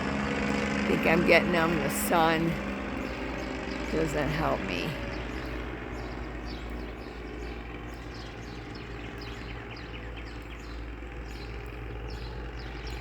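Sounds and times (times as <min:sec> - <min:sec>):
small aircraft engine drone: 0:00.0 - 0:13.0
songbirds chirping: 0:00.0 - 0:13.0.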